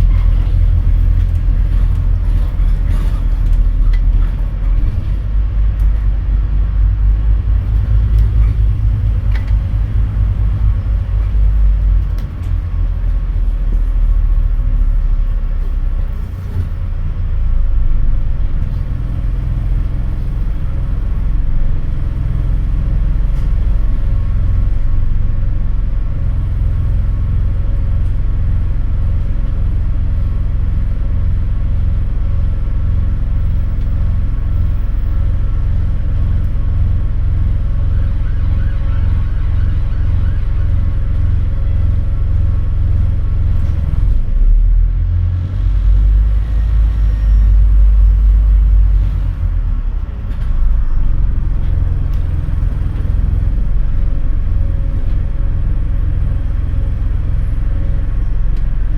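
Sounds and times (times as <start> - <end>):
bus diesel engine rumbling: 0.0 - 58.9.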